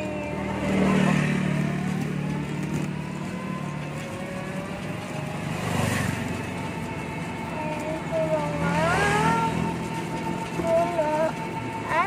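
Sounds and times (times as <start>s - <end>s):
road and wind noise: 0.0s - 12.0s
vehicle motor hum: 0.0s - 12.0s.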